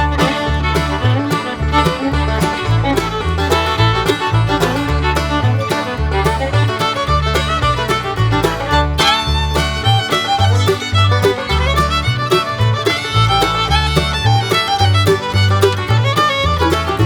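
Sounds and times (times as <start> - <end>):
bluegrass fiddle music: 0.0 - 17.0
plucked bass line: 0.0 - 17.0.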